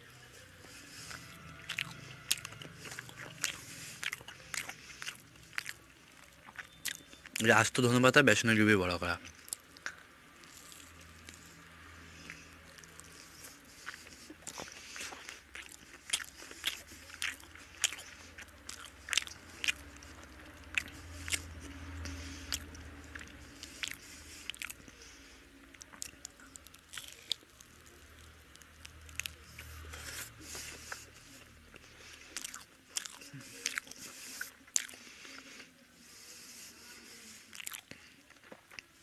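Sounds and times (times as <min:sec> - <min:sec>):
biting and chewing crisp fritter: 0:00.0 - 0:39.0.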